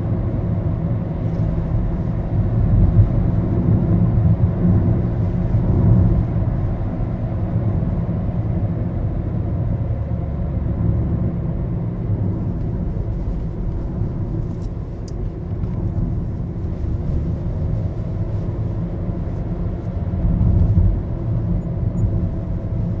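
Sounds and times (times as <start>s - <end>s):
car cabin road and engine rumble: 0.0s - 23.0s.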